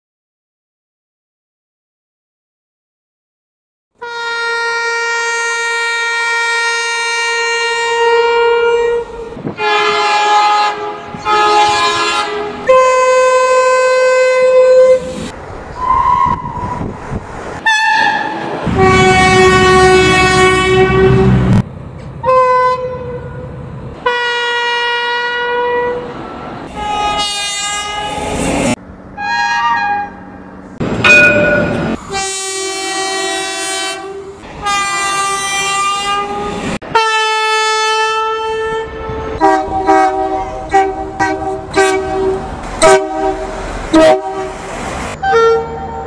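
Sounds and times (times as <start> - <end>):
train horn blasts: 4.0 - 16.7, 17.6 - 21.6, 22.2 - 26.1, 26.7 - 30.2, 31.4 - 46.0
passing train rumble: 4.0 - 46.0.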